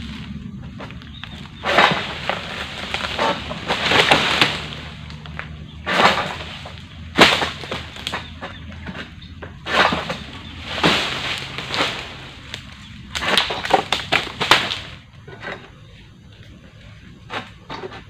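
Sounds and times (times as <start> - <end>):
sickle scraping palm fronds: 0.0 - 18.0.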